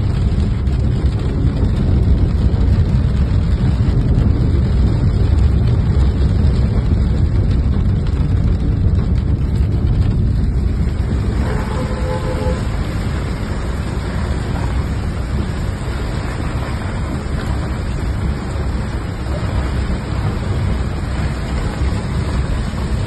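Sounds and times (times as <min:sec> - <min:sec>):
deep rumble: 0:00.0 - 0:23.0
hail and rain on car roof: 0:00.0 - 0:23.0.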